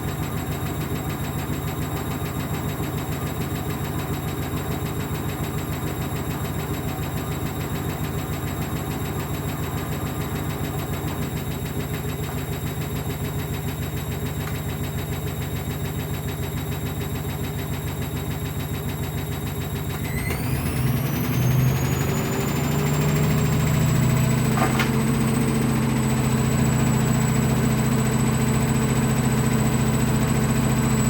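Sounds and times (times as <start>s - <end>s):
washing machine drum spinning: 0.0s - 31.0s.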